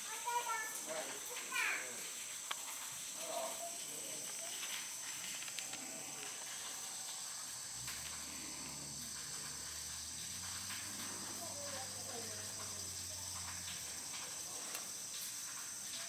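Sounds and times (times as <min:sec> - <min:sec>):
high-pitched insect drone: 0:02.8 - 0:16.0.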